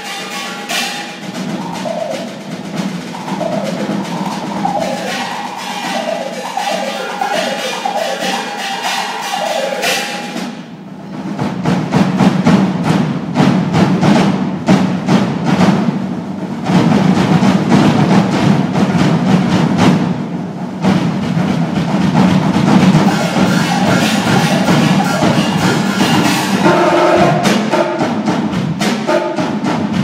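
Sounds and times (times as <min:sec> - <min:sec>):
rapid drum strokes: 0:00.0 - 0:30.0.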